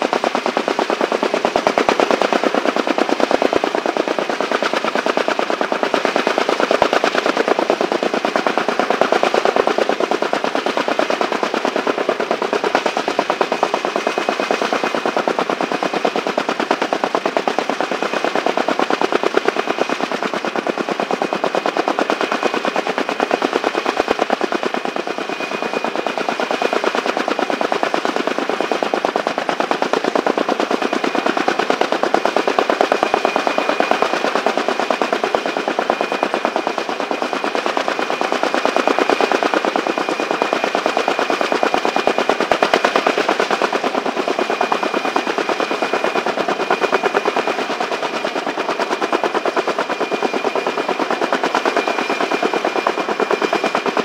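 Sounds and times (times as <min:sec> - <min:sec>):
helicopter rotors chopping: 0:00.0 - 0:54.0.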